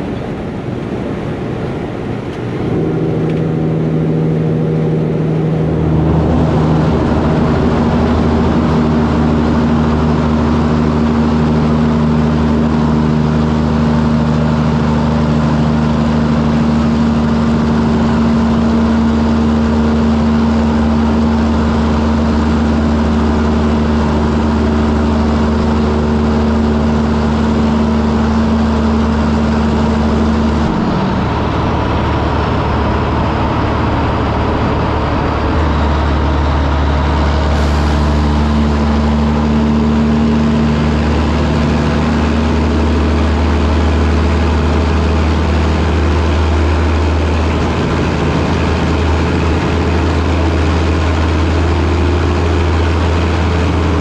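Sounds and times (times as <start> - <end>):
diesel truck engine running: 0.0 - 54.0
road noise: 0.0 - 54.0.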